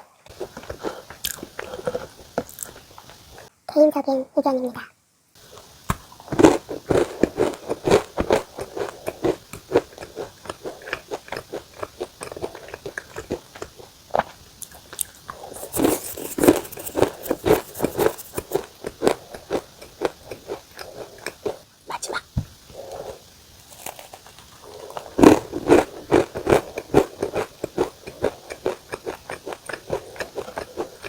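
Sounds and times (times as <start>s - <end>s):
crunching and chewing biscuit: 0.3s - 3.5s, 5.4s - 21.7s, 22.7s - 31.0s.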